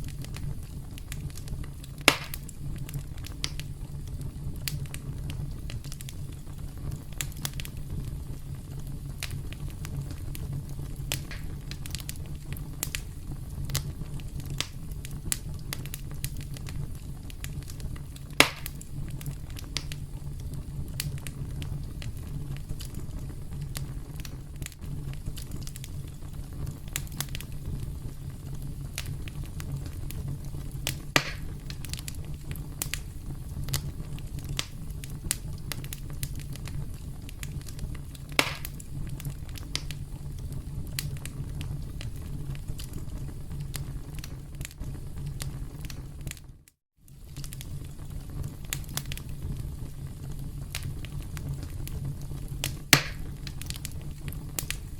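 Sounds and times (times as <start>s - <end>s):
campfire crackling: 0.0s - 54.9s
loud fire pops: 0.0s - 54.9s.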